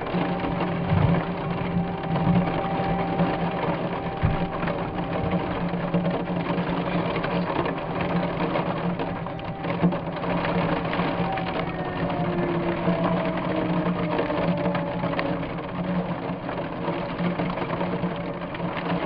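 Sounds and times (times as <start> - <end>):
constant low hum: 0.0 - 19.0
heavy rain patter: 0.0 - 19.0.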